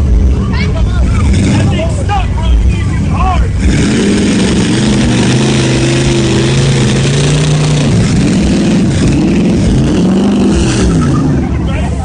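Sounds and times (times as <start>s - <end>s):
vehicle engine revving hard: 0.0s - 12.0s.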